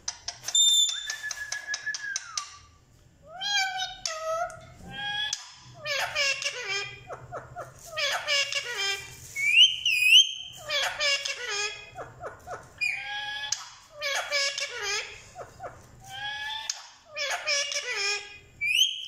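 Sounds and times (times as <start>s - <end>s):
parakeet chattering: 3.3s - 18.9s.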